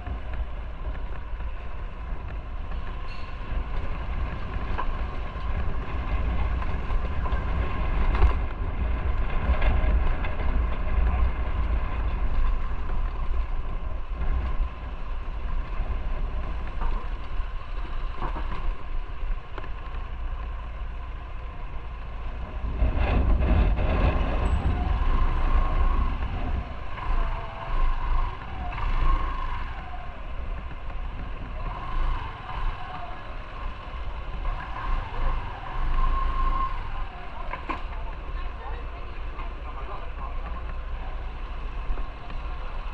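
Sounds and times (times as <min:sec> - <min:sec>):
wind rumble on microphone: 0:00.0 - 0:42.9.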